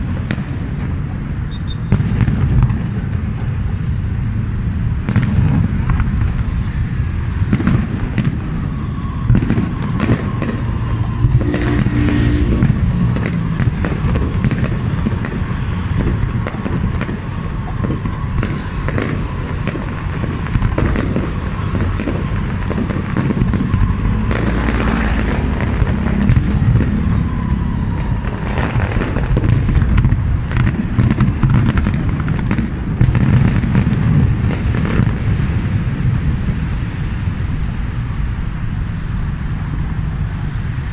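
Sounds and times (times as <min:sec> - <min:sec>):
deep rumble: 0:00.0 - 0:40.9
fireworks bursting: 0:00.0 - 0:40.9.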